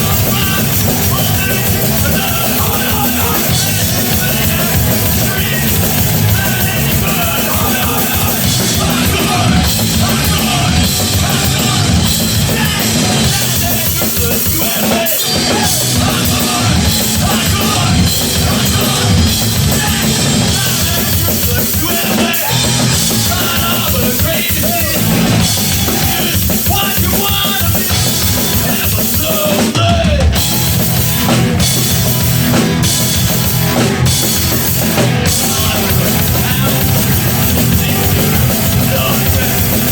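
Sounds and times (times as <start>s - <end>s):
bass guitar: 0.0s - 39.9s
distorted guitar: 0.0s - 39.9s
fast drum kit: 0.0s - 39.9s.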